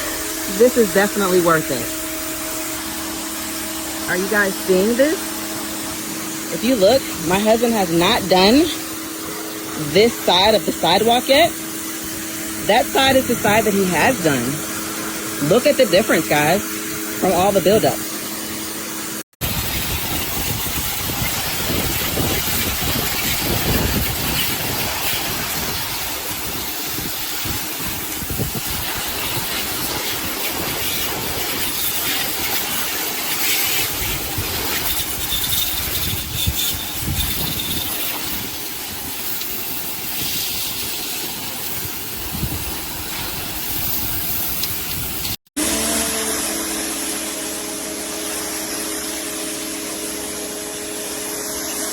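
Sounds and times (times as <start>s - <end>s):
pressure washer spraying concrete: 0.0s - 51.9s
pump motor hum: 0.0s - 51.9s.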